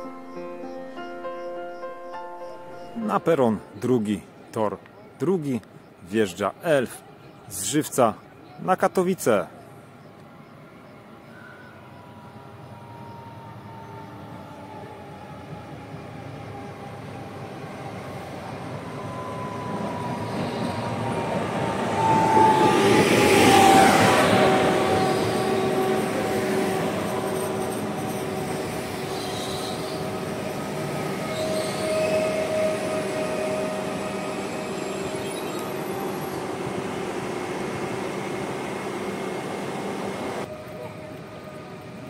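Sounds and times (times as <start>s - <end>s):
electric train passing with whine: 0.0s - 8.6s, 9.2s - 42.0s.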